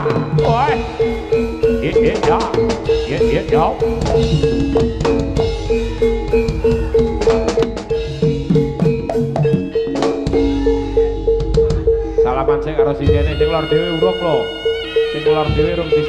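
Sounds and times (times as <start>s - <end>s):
bronze percussion repeated note: 0.0s - 16.0s
drum strokes: 0.0s - 16.0s
gamelan music: 0.0s - 16.0s.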